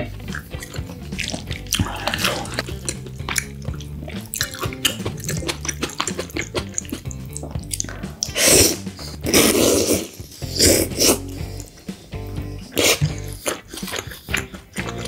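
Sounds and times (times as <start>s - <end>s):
chewing: 0.2s - 15.0s
noisy slurping of noodles: 0.3s - 12.0s, 12.6s - 15.0s.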